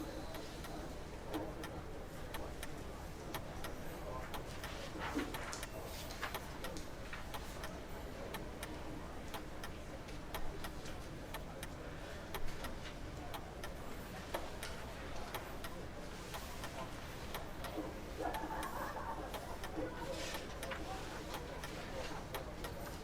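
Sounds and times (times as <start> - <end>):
murmur of voice: 0.0 - 23.0.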